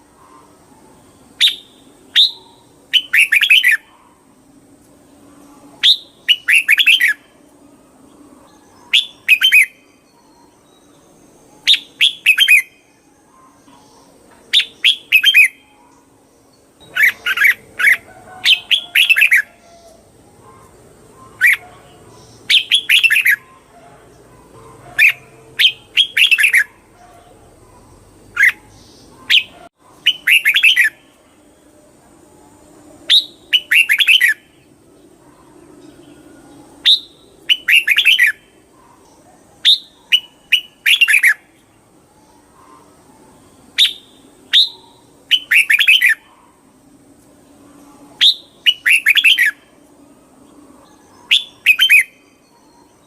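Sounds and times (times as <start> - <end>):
bird chirping song: 0.0 - 53.0.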